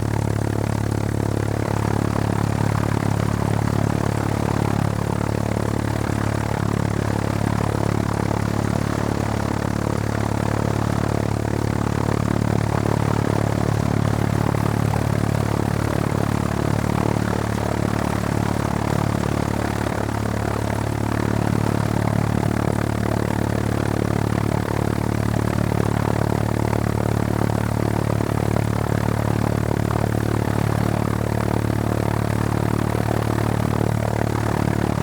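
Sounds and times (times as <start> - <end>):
propeller aircraft engine idling: 0.0 - 35.0.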